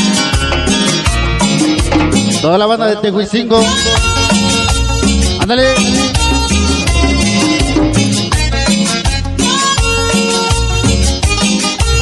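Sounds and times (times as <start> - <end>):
cumbia music: 0.0 - 12.0.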